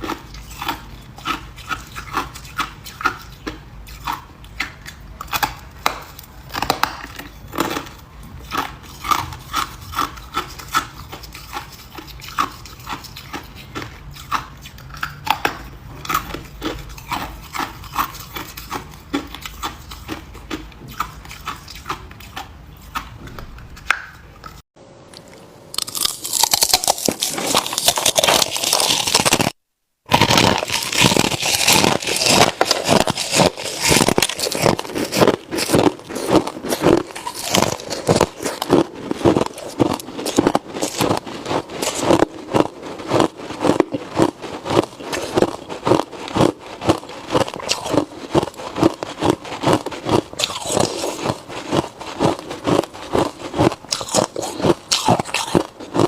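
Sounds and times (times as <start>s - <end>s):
ice crunching being chewed: 0.0s - 23.4s, 25.2s - 56.0s.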